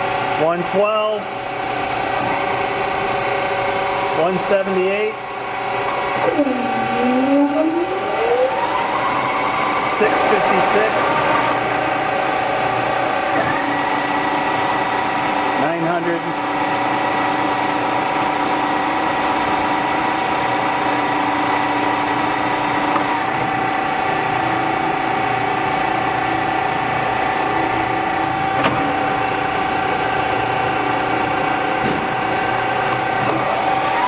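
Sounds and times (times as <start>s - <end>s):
lathe spindle humming and whining: 0.0s - 34.0s.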